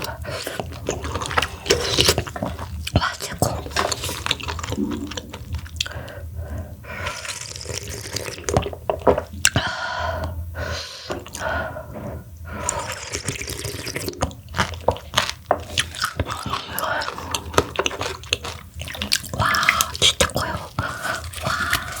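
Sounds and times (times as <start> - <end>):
wet chewing and slurping: 0.0 - 9.6, 12.1 - 22.0.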